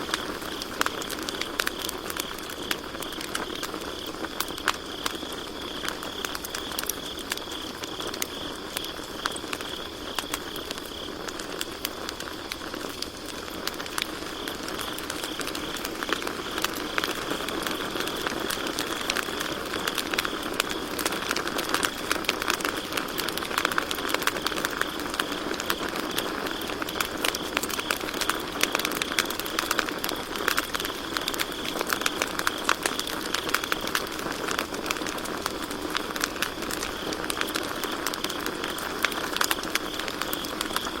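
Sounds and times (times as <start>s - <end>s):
campfire wood crackling: 0.0s - 41.0s
crickets chirping: 0.0s - 41.0s.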